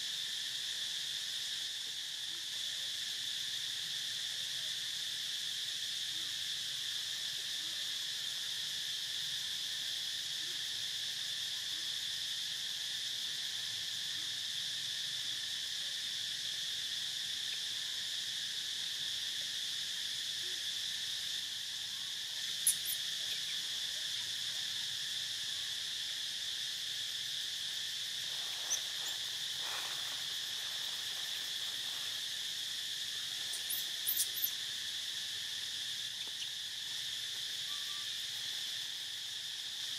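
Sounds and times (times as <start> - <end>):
insect chorus buzzing: 0.0 - 39.9.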